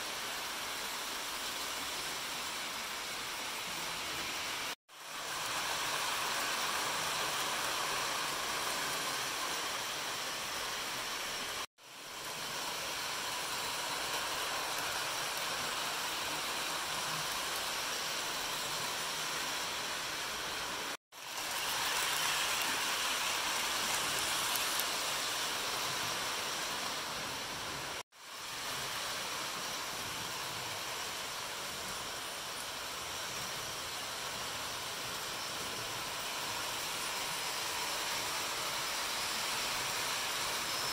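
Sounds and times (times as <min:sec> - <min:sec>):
model trains whirring: 0:00.0 - 0:40.9.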